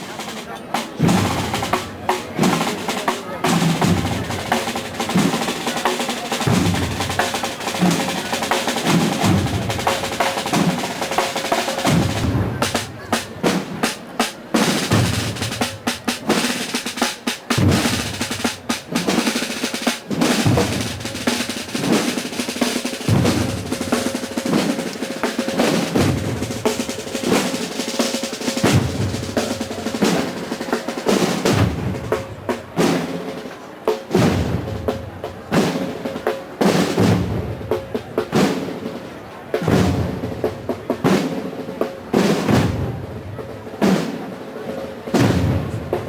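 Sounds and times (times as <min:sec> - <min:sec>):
snare drum rolls: 0:00.0 - 0:46.0.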